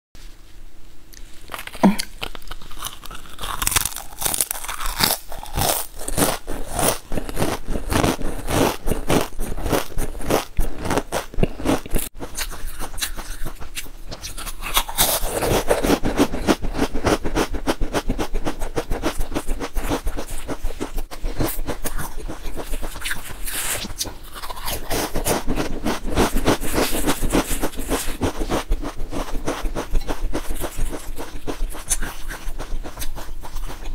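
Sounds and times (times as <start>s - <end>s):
crunching potato crisps: 1.4s - 33.9s.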